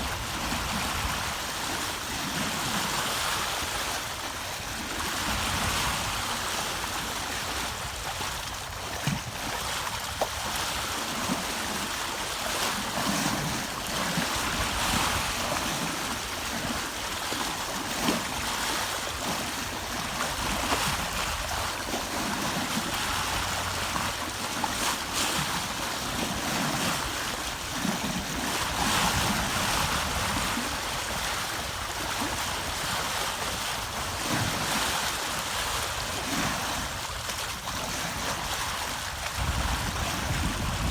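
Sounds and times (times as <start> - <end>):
water rushing along a hull: 0.0 - 40.9
wind on microphone: 0.0 - 40.9.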